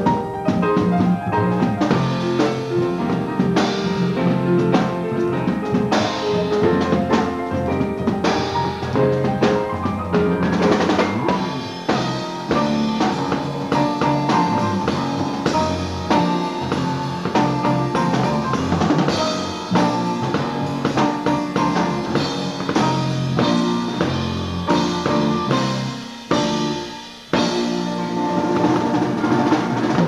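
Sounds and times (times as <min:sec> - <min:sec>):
drum kit busy beat: 0:00.0 - 0:30.0
grand piano: 0:00.0 - 0:30.0.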